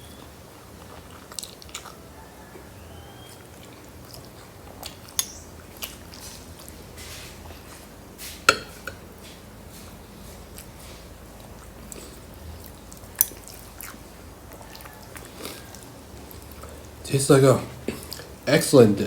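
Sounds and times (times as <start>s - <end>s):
person chewing food: 0.0s - 17.0s, 17.7s - 18.4s.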